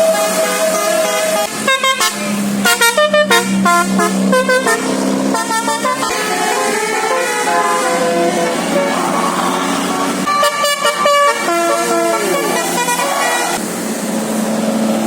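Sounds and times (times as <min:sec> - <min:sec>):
bus musical air horn melody: 0:00.0 - 0:13.7.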